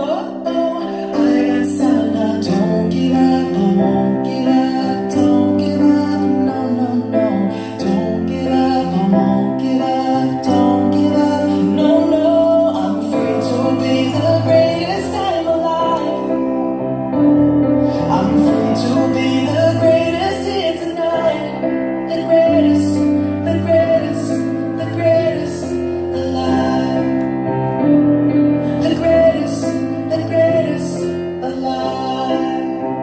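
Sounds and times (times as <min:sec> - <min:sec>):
song with sung vocal: 0:00.0 - 0:33.0.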